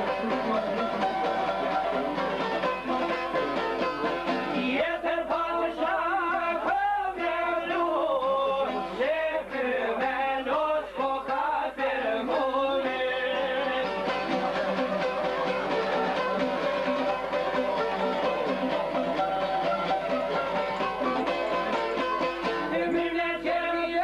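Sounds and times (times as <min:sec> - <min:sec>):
plucked lute playing folk tune: 0:00.0 - 0:24.0.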